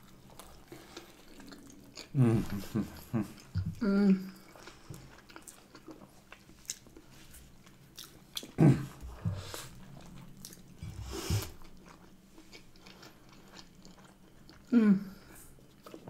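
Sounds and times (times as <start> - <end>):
chewing a sandwich: 0.0 - 16.0.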